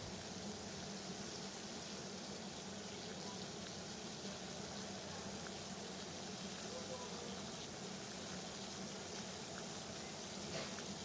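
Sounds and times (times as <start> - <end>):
water boiling: 0.0 - 11.0.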